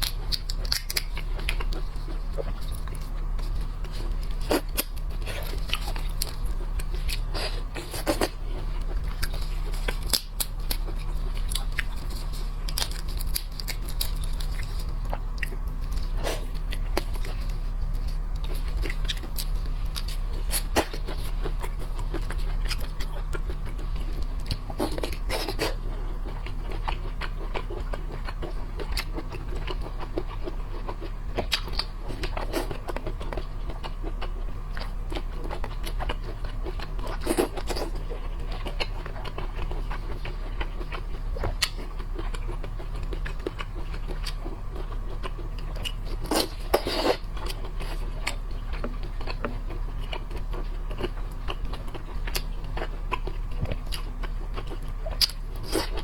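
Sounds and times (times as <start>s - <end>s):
low hum: 0.0s - 56.0s
person chewing seafood: 0.0s - 56.0s.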